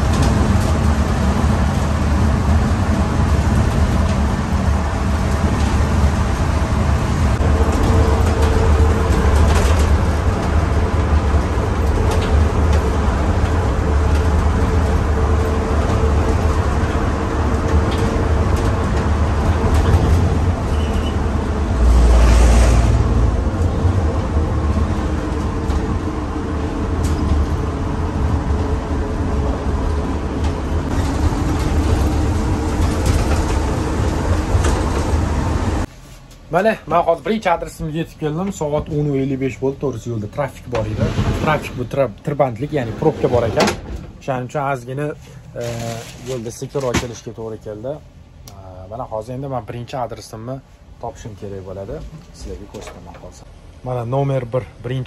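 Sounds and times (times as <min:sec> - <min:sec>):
van engine and road rumble: 0:00.0 - 0:55.0.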